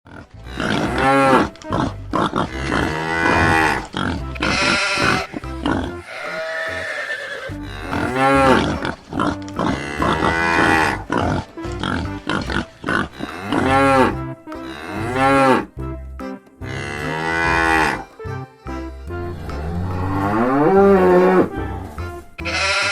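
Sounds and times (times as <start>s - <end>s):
cattle mooing: 0.1s - 15.7s, 16.7s - 18.2s, 19.1s - 22.9s
background music: 0.1s - 22.9s.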